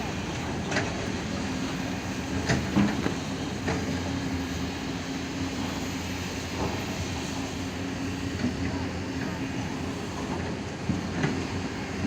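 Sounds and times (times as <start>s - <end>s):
heavy machinery diesel engine: 0.0s - 12.0s.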